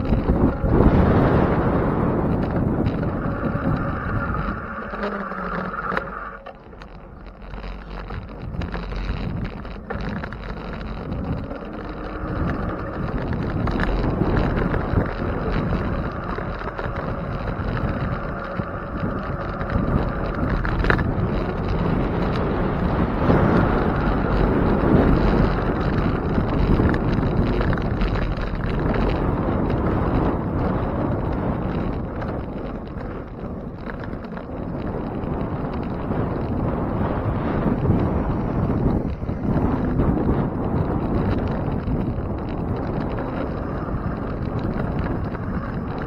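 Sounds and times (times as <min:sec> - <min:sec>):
wind rushing over microphone: 0:00.0 - 0:46.0.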